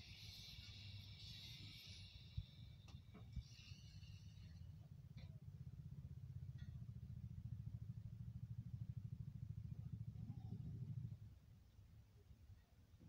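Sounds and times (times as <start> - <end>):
faint low engine rumble: 0.0 - 13.0.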